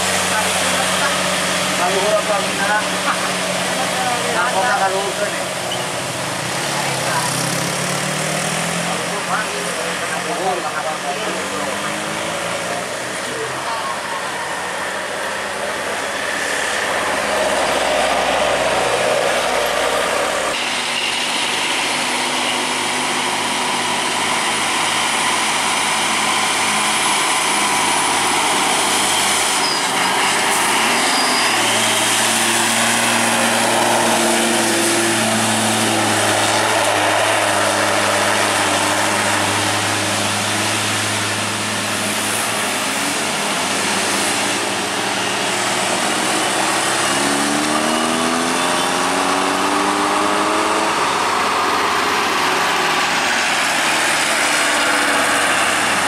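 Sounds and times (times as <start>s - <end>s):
dump truck diesel engine: 0.0s - 56.0s
passing vehicles: 0.0s - 56.0s.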